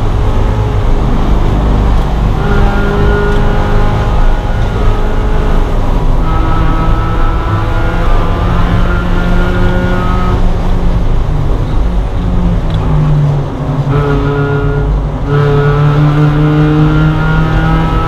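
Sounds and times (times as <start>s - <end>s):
car engine running hard: 0.0s - 18.0s
road and wind noise: 0.0s - 18.0s.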